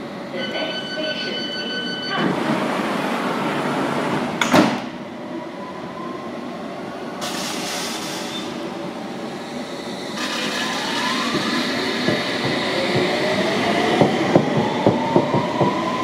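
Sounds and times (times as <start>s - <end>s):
train humming: 0.0s - 16.0s
train doors closing: 0.3s - 5.4s, 7.1s - 16.0s.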